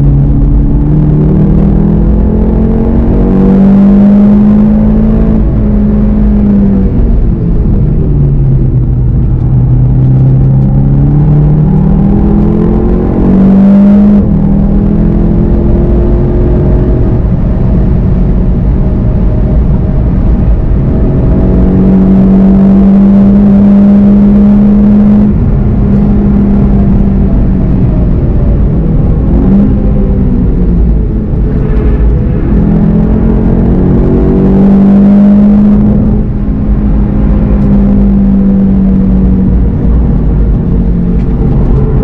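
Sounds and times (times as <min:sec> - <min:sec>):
car engine from inside cabin: 0:00.0 - 0:42.0.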